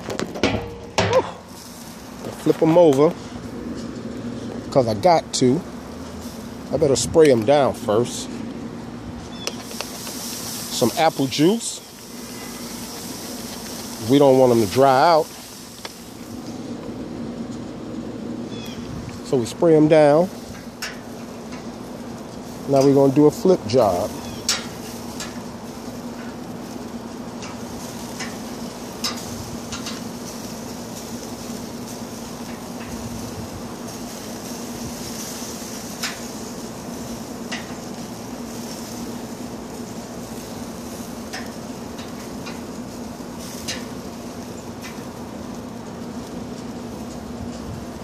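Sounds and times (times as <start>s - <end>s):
steady background hum: 0.0s - 48.0s.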